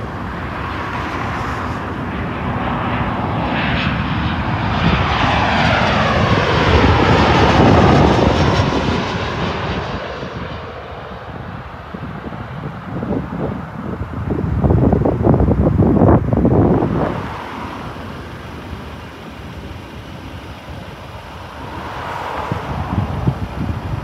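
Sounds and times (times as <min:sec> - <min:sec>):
jet airliner passing overhead: 0:00.0 - 0:24.0.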